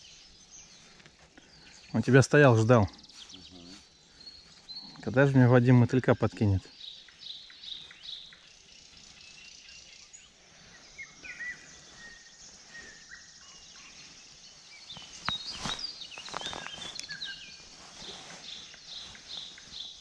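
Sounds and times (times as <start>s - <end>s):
faint outdoor hiss: 0.0s - 20.0s
songbirds whistling and chirping: 0.0s - 20.0s.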